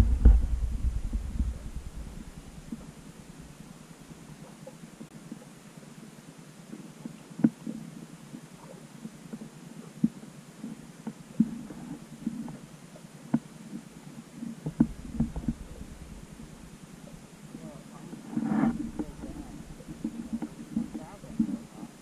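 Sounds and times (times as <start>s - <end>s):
underwater rumble of moving water: 0.0s - 22.0s.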